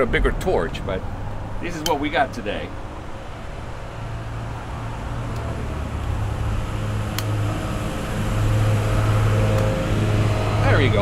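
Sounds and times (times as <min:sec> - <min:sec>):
low rumble of flames: 0:00.0 - 0:11.0.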